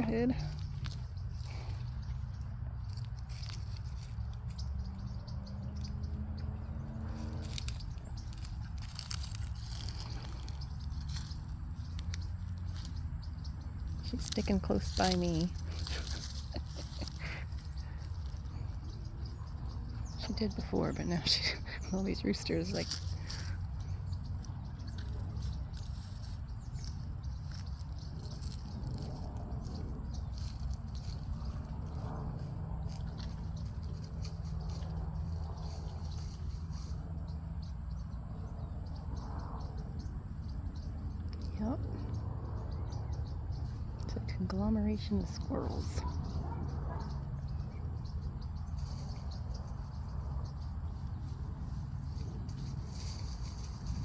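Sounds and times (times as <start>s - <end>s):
faint high ticks and rustles: 0.0s - 38.2s, 45.4s - 54.0s
bird chirps and clicks: 0.0s - 54.0s
steady low rumble: 0.0s - 54.0s.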